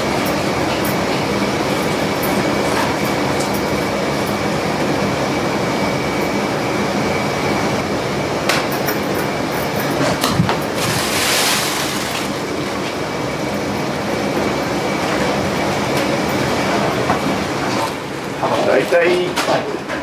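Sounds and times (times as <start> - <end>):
loud mechanical rumble: 0.0 - 20.0.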